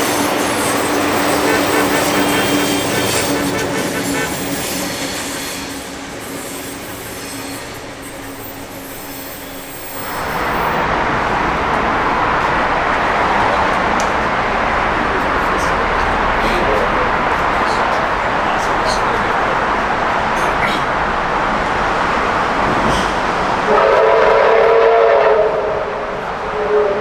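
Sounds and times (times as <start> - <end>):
train engine hum: 0.0 - 27.0
train rushing noise: 0.0 - 27.0.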